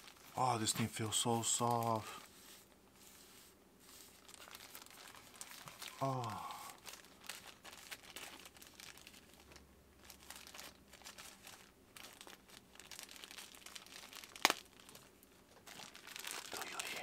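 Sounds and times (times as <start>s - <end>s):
packaging crinkling: 0.0s - 2.5s, 3.1s - 17.0s.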